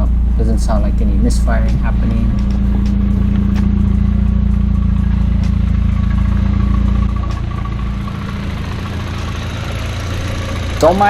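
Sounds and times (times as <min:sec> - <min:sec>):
car engine idling: 0:00.0 - 0:11.0
light engine chatter: 0:00.0 - 0:11.0.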